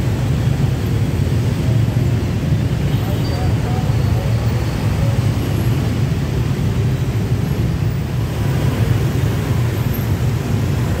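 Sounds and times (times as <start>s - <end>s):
motorbike traffic rumble: 0.0s - 11.0s.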